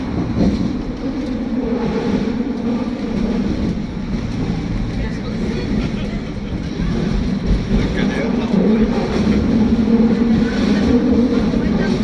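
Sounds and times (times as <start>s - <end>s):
electric tram rumbling: 0.0s - 12.0s.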